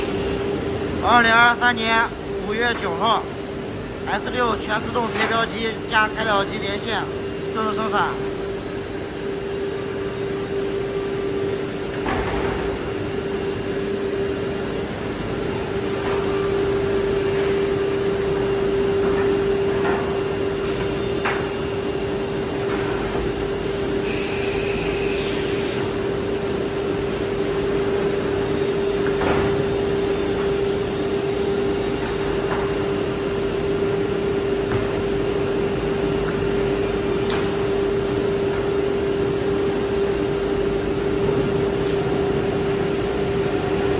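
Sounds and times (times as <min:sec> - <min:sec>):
machine hum with hiss: 0:00.0 - 0:43.9.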